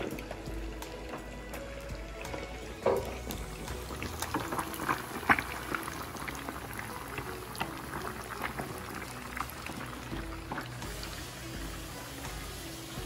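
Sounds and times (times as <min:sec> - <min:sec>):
fish sizzling in hot oil: 0:00.0 - 0:13.0
oil crackling and popping: 0:00.0 - 0:13.0.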